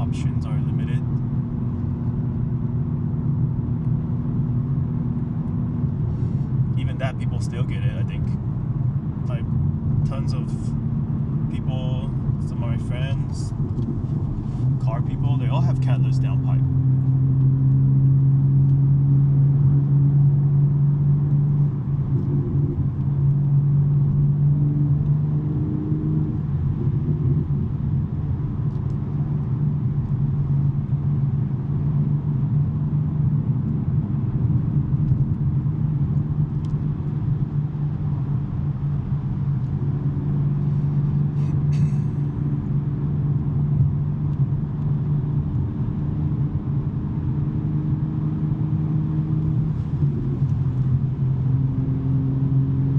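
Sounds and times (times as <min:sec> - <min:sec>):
car exhaust drone: 0:00.0 - 0:52.9.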